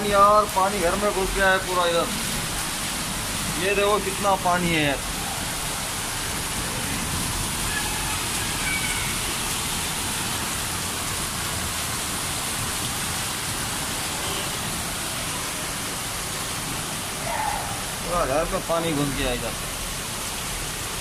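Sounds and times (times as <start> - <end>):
heavy rain on flooded street: 0.0 - 21.0.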